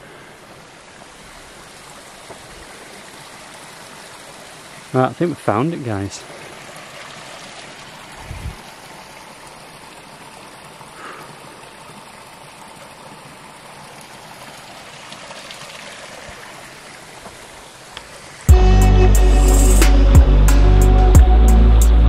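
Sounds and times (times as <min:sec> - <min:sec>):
water trickling over rocks: 0:00.0 - 0:18.5.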